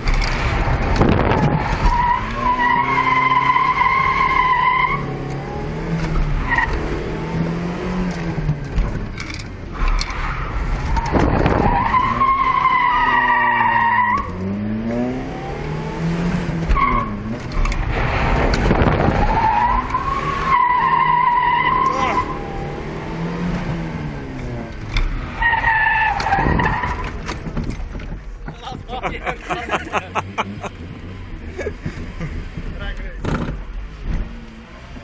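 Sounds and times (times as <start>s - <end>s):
car tyres squealing: 0.0s - 7.2s, 8.2s - 35.0s
car engine revving: 0.0s - 35.0s.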